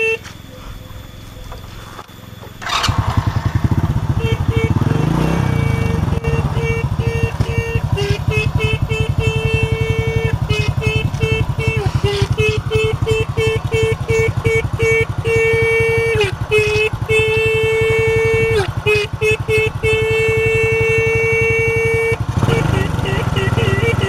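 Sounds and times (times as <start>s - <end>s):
motorcycle horn honking: 0.0s - 0.4s, 2.6s - 24.0s
motorcycle engine idling: 0.0s - 24.0s.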